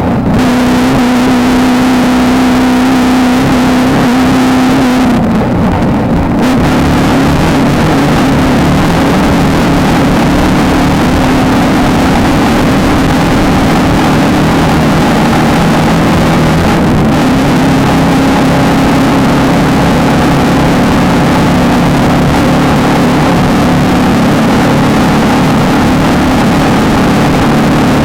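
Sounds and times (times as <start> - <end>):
race car engine running hard: 0.0 - 28.0
rushing noise: 0.0 - 28.0.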